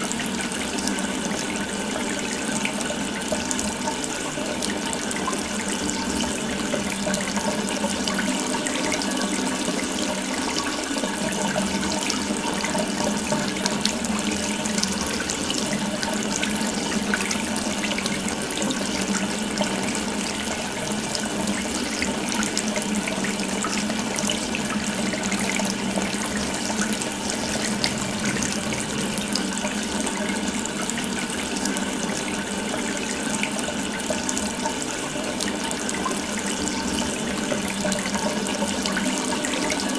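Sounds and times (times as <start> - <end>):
water running from tap: 0.0 - 39.9.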